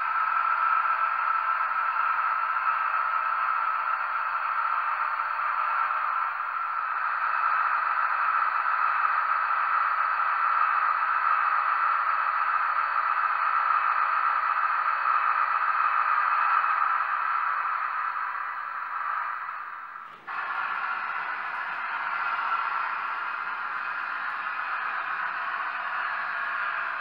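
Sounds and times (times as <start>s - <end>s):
model locomotive hissy hum: 0.0s - 27.0s.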